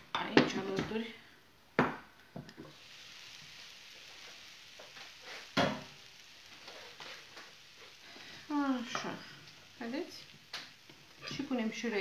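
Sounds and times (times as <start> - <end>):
zucchini sizzling in frying pan: 0.1 - 12.0.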